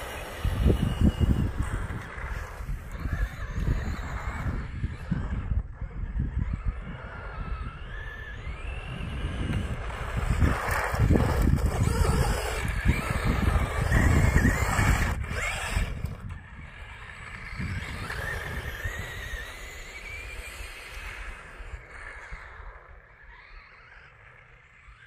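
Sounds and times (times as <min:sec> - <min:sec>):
wind buffeting microphone: 0:00.0 - 0:24.2
model car motor whine: 0:00.0 - 0:25.0.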